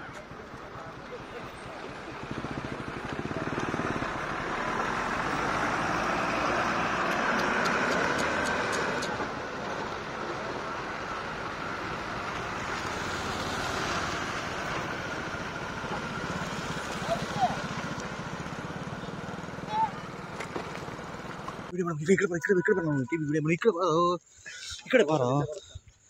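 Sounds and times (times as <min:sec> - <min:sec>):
vehicle passing on road: 0:00.0 - 0:23.3.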